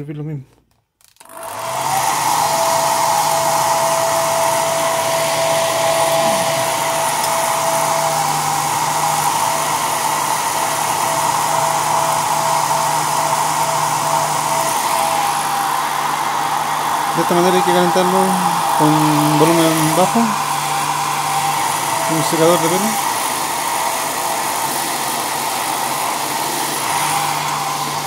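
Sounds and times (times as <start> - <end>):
hair dryer running: 1.2 - 28.0.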